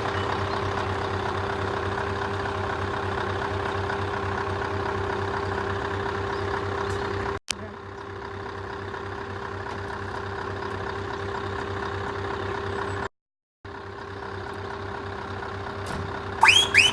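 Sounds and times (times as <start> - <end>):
diesel truck engine idling: 0.0 - 13.1, 13.7 - 16.9.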